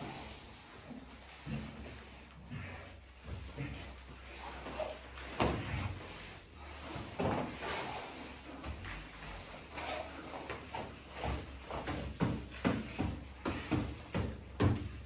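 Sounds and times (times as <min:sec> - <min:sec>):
bodies scuffing on foam mats: 0:00.0 - 0:15.0.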